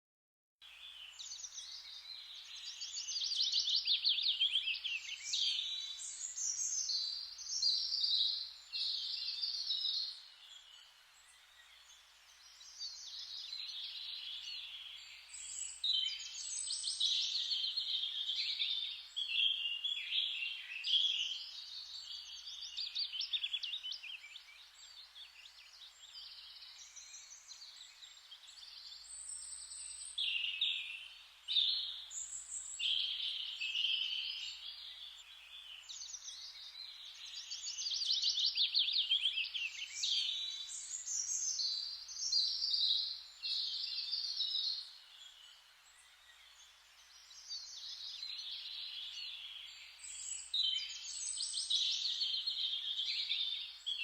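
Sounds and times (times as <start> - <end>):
steady background hiss: 0.7 - 54.0.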